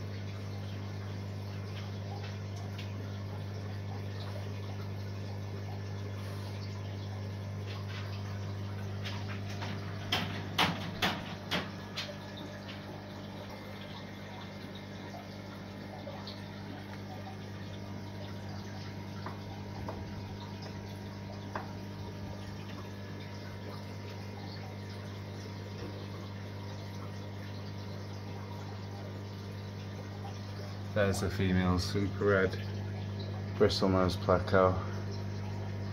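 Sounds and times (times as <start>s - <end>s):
aquarium water trickling: 0.0s - 35.9s.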